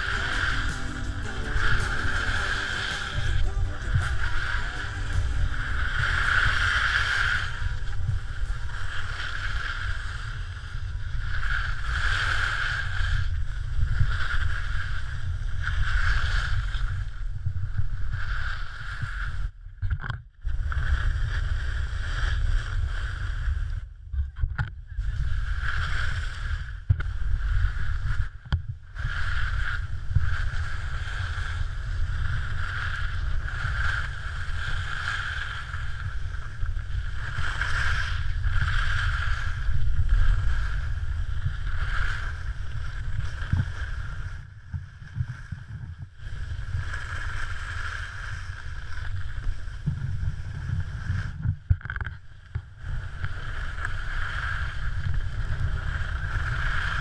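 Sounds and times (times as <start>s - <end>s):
skis scraping on snow: 0.0s - 19.4s, 20.5s - 23.8s, 25.1s - 28.4s, 29.0s - 51.6s, 52.3s - 57.0s
wind on microphone: 0.0s - 57.0s.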